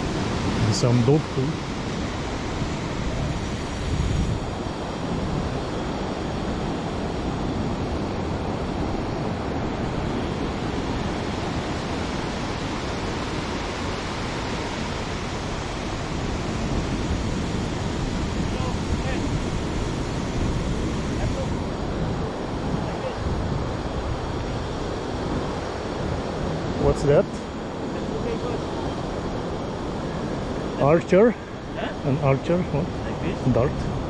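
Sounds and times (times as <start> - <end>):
ocean surf on sandy beach: 0.0 - 34.0
wind on microphone: 0.0 - 34.0.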